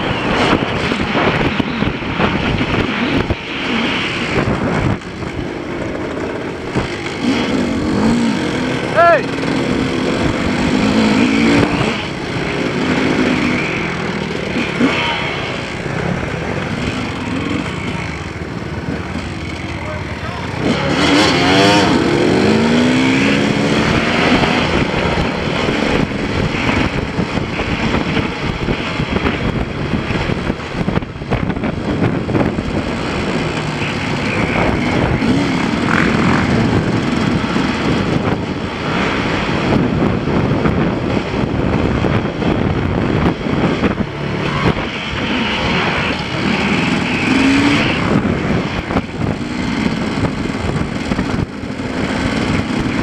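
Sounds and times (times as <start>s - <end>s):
wind buffeting microphone: 0.0s - 14.8s, 21.0s - 53.0s
motorcycle engine revving: 0.0s - 53.0s.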